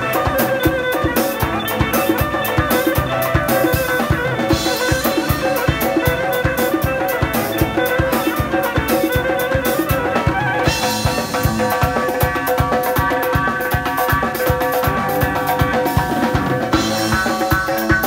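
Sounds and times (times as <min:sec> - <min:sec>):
electric violin melody: 0:00.0 - 0:18.0
fast drum beat: 0:00.0 - 0:18.0.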